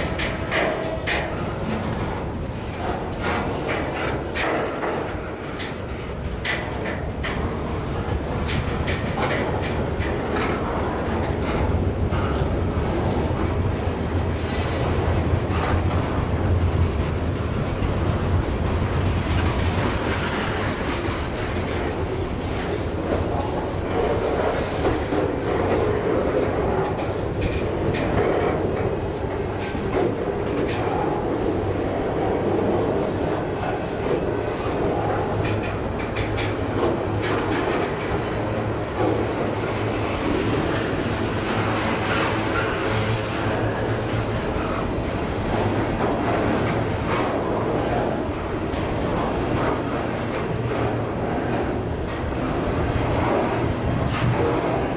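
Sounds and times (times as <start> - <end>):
train clatters: 0.0 - 54.9
train wheels rumbling on rail: 0.0 - 54.9.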